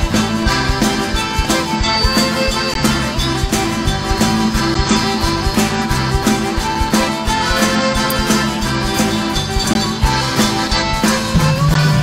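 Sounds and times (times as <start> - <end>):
steady drum beat: 0.0 - 12.0
strummed acoustic guitar: 0.0 - 12.0.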